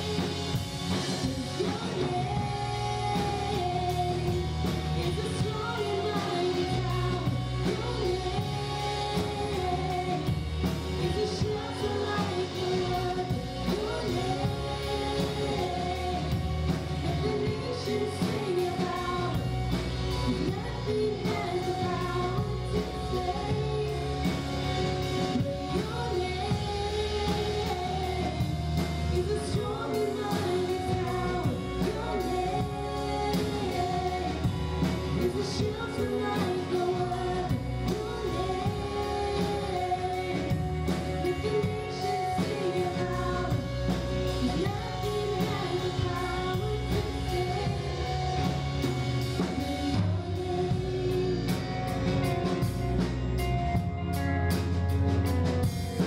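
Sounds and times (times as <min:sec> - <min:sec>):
person singing: 0:00.0 - 0:54.4
drum kit: 0:00.0 - 0:56.0
electric guitars: 0:00.0 - 0:56.0.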